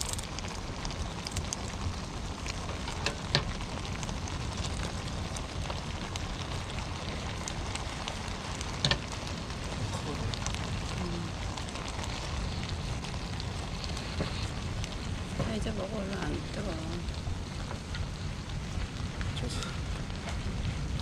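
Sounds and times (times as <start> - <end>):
rain hissing: 0.0 - 21.0
raindrops ticking: 0.0 - 21.0.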